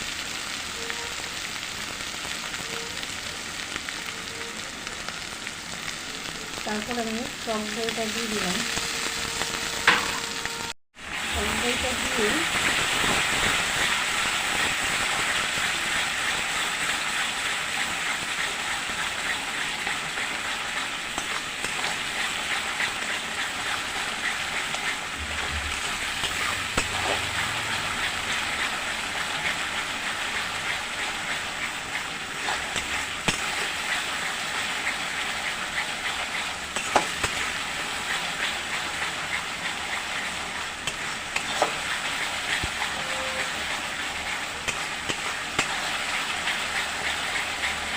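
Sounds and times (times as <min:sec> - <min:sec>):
masala sizzling in a pan: 0:00.0 - 0:47.9.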